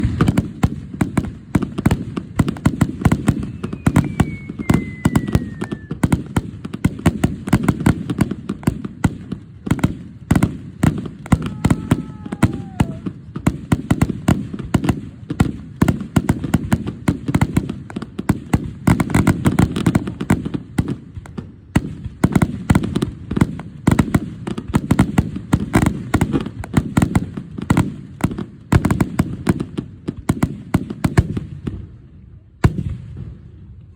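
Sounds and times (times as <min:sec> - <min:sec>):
fireworks bursts and crackles: 0:00.0 - 0:33.9.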